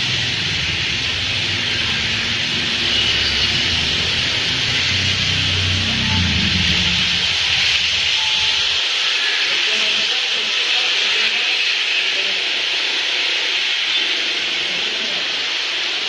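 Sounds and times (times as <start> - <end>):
rain hiss: 0.0 - 16.0
tyres on wet street: 0.0 - 16.0.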